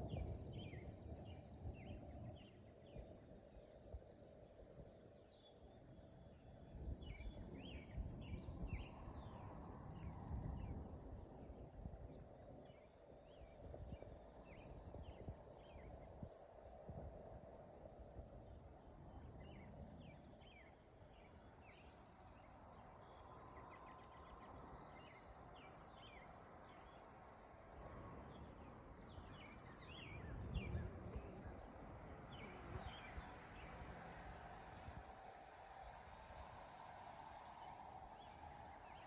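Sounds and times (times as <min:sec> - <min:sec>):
low rumble of wind: 0:00.0 - 0:39.0.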